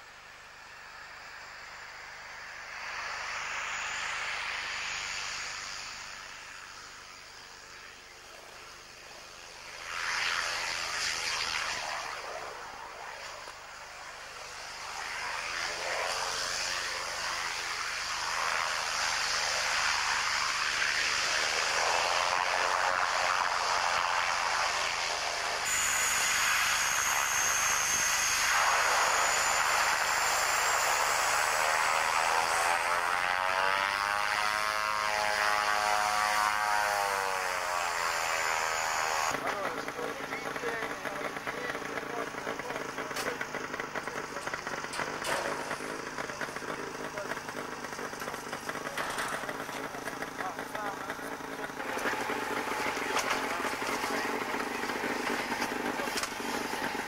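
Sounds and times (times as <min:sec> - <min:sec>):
high turbine whine: 0:00.0 - 0:57.0
propeller aircraft drone: 0:00.0 - 0:57.0.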